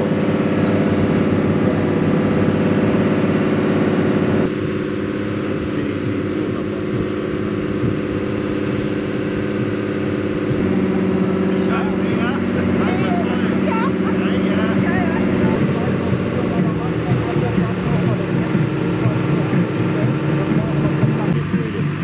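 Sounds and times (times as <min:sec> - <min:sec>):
ferry engine running: 0:00.0 - 0:22.0.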